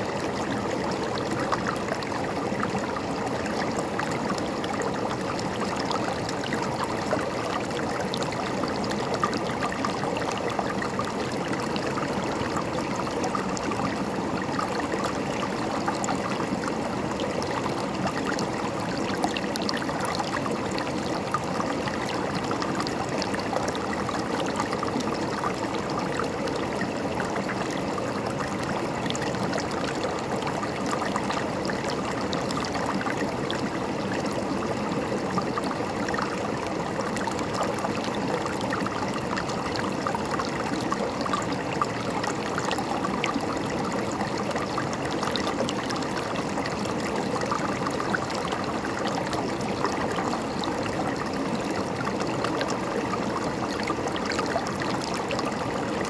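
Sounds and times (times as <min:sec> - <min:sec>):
river water gurgling over rocks: 0:00.0 - 0:56.0.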